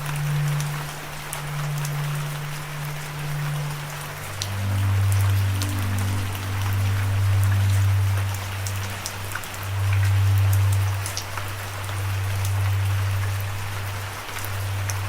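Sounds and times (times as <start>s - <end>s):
rain with ticking drops: 0.0s - 15.0s.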